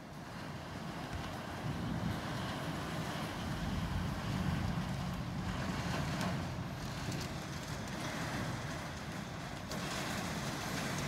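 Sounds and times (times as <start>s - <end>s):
wind buffeting microphone: 0.0s - 11.0s
heavy rain falling: 1.2s - 11.0s.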